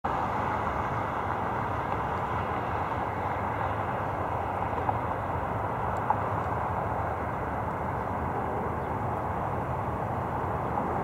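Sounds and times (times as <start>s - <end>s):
distant jet engines at takeoff: 0.1s - 11.0s.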